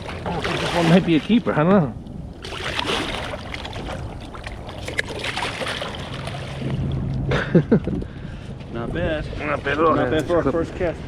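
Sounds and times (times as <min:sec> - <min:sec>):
steady low hum: 0:00.0 - 0:11.0
water noise: 0:00.0 - 0:11.0
wind: 0:00.0 - 0:11.0.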